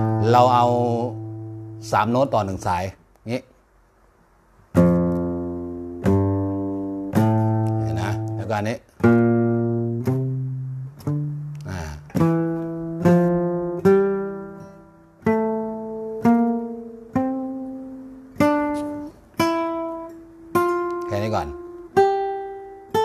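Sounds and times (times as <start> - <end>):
classical guitar single notes: 0.0 - 2.4, 4.7 - 23.0.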